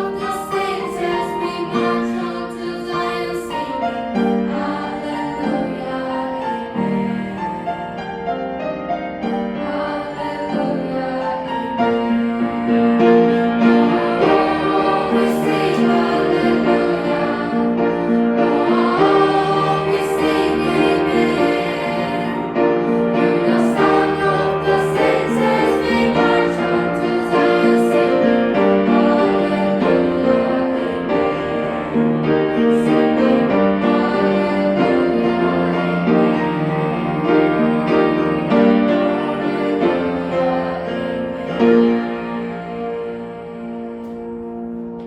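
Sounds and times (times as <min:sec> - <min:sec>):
worship song with piano: 0:00.0 - 0:45.0.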